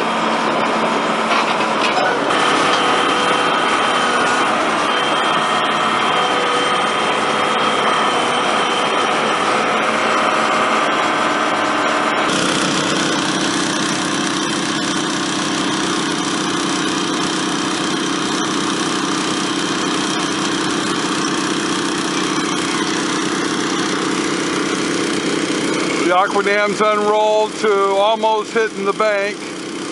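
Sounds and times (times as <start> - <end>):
small gasoline engines running: 0.0 - 29.9.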